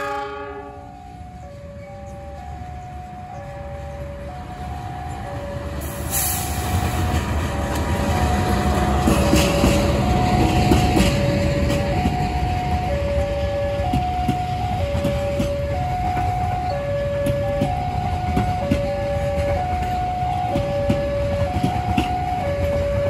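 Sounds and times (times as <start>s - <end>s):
train passing: 0.0s - 23.0s
two-tone crossing alarm: 0.0s - 23.0s.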